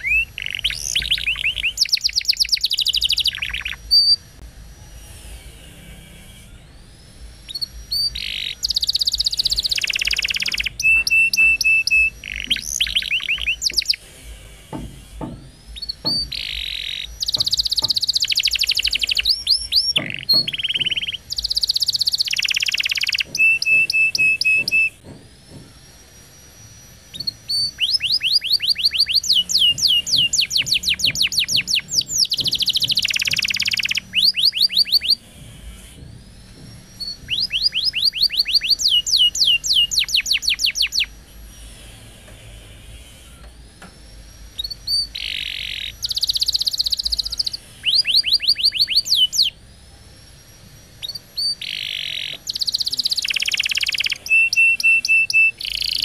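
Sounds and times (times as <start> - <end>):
canary singing trills: 0.0 - 42.2, 44.3 - 56.0.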